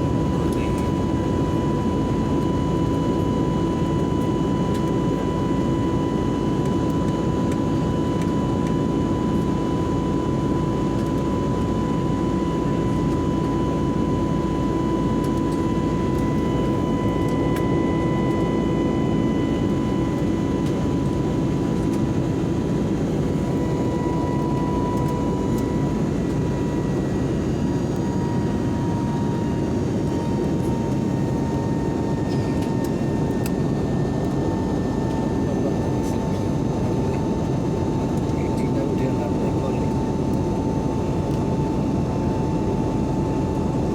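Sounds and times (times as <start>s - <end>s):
jet engine cabin rumble: 0.0s - 43.9s.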